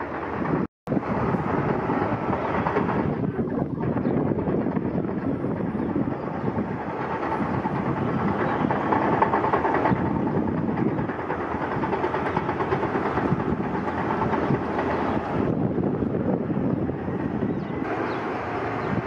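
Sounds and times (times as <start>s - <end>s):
heavy machinery engine rumble: 0.0s - 19.0s.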